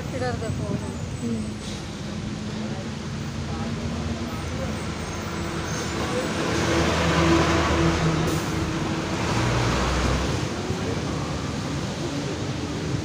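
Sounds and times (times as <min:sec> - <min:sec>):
road noise inside vehicle: 0:00.0 - 0:13.0
large vehicle passing: 0:00.9 - 0:13.0.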